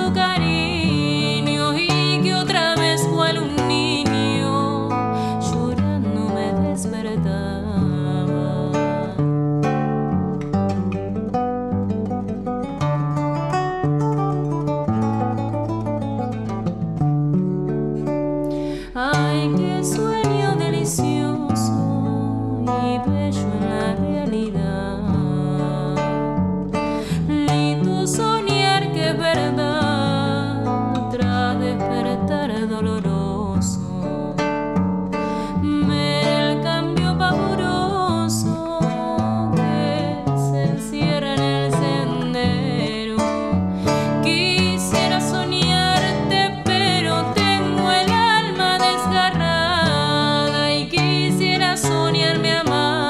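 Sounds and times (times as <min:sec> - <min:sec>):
woman singing slow song: 0:00.0 - 0:10.1, 0:18.5 - 0:53.0
classical guitar solo: 0:00.0 - 0:53.0.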